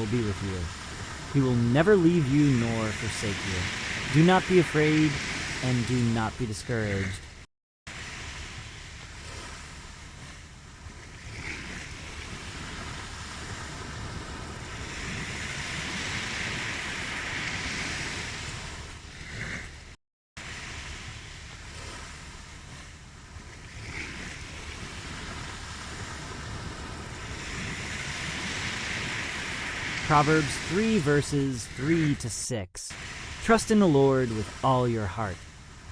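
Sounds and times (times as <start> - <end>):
ocean waves washing in: 0.0 - 35.9.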